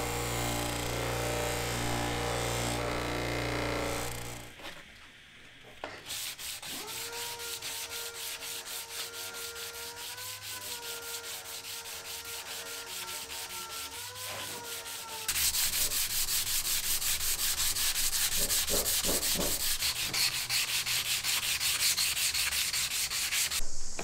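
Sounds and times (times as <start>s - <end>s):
sander rasping on metal: 0.0s - 4.6s, 6.0s - 23.6s.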